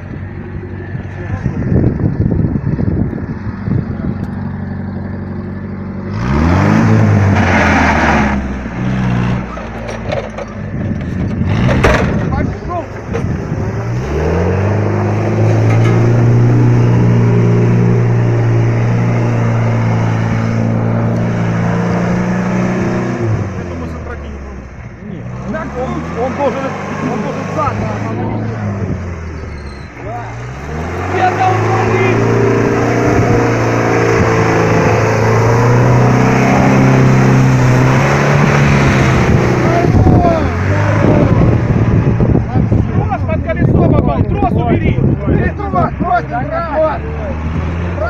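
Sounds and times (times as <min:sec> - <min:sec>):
vehicle engine revving: 0:00.0 - 0:48.0.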